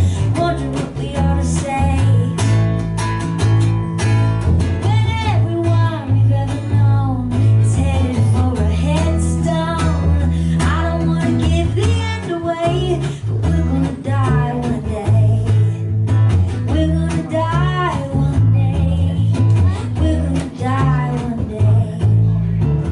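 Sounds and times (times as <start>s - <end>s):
plucked guitar: 0.0s - 22.9s
steady bass line: 0.0s - 22.9s.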